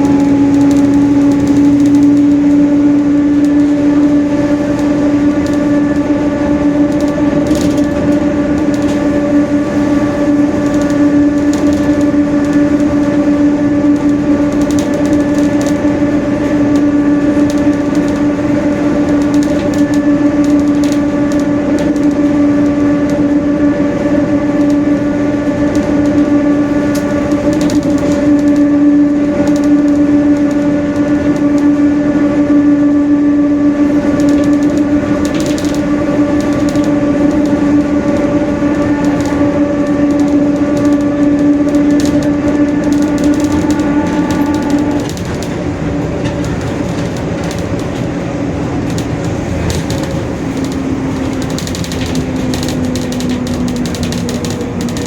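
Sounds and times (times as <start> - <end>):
bus differential gear whine: 0.0 - 55.0
bus running noise: 0.0 - 55.0.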